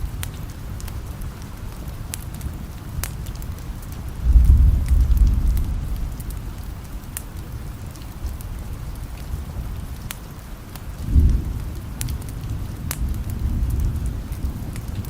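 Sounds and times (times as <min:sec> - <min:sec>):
distant thunder rumbling: 0:00.0 - 0:09.9, 0:10.9 - 0:15.0
steady rain: 0:00.0 - 0:15.0.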